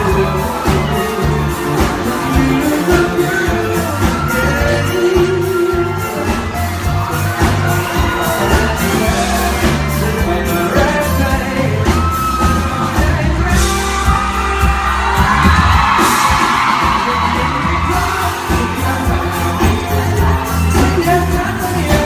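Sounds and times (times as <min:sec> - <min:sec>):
man singing: 0:00.0 - 0:15.3, 0:16.5 - 0:22.0
live pop band: 0:00.0 - 0:22.0.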